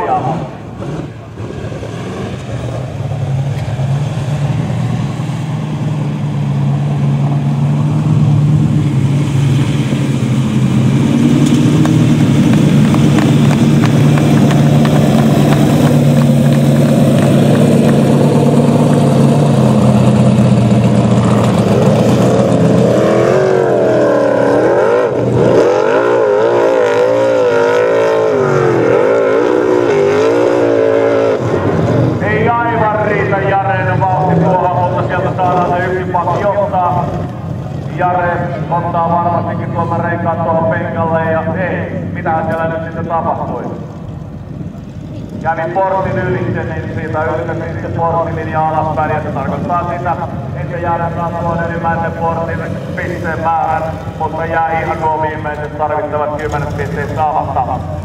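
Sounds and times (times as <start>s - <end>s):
buggy engine at full throttle: 0.0s - 58.0s.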